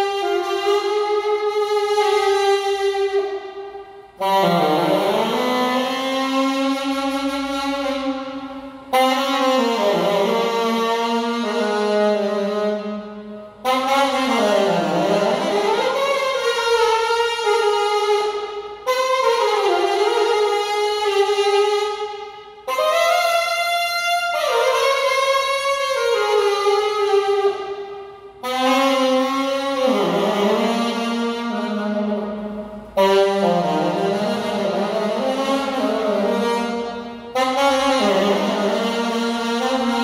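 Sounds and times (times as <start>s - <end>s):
solo alto saxophone: 0.0s - 40.0s.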